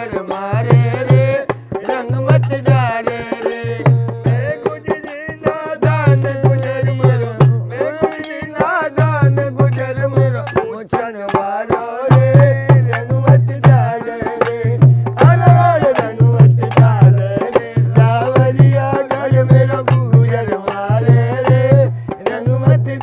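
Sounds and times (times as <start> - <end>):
hand drum beat: 0.0 - 23.0.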